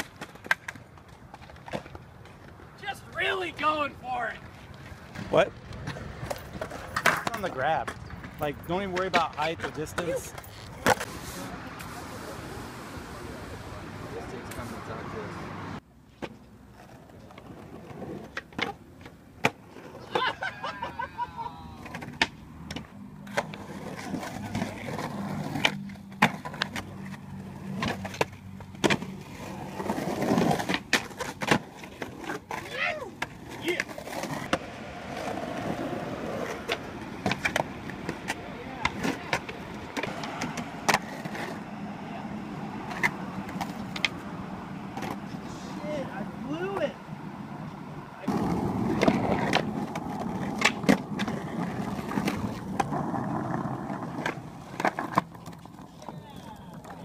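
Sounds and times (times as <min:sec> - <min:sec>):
skateboard clacking on concrete: 0:00.0 - 0:03.3, 0:04.3 - 0:12.2, 0:16.2 - 0:20.2, 0:21.8 - 0:45.4, 0:48.2 - 0:57.0
skateboard wheels rolling on concrete: 0:00.0 - 0:57.0.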